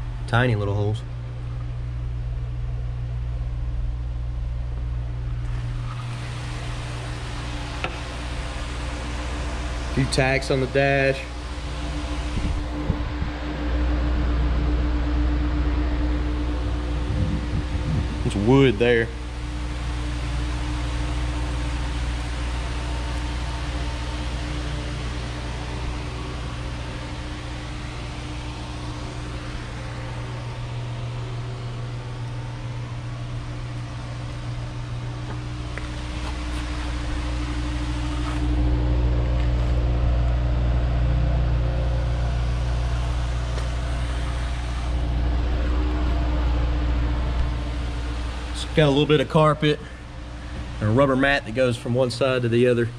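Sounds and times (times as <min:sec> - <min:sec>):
low mechanical drone: 0:00.0 - 0:52.9.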